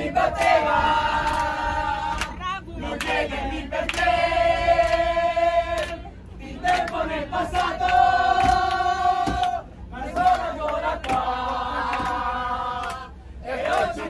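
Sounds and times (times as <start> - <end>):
crowd singing and chanting: 0.0 - 14.0.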